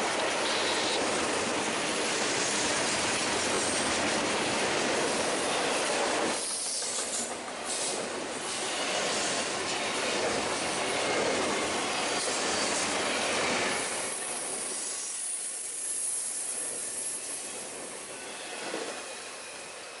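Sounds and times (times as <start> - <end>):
train cars rolling on rails: 0.0 - 20.0.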